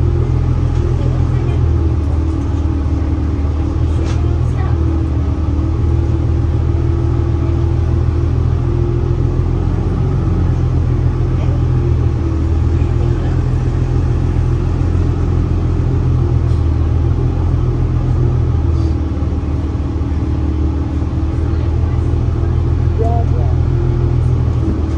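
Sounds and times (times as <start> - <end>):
bus engine rumble: 0.0 - 24.9.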